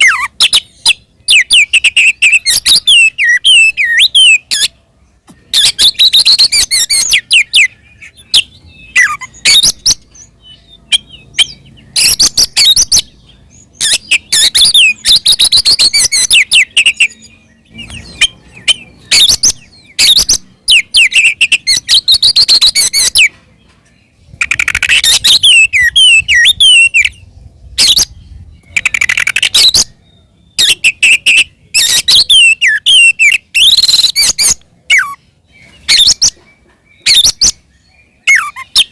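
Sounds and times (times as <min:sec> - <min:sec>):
bird singing whistled phrases: 0:00.0 - 0:04.7, 0:05.5 - 0:23.3, 0:24.4 - 0:36.4.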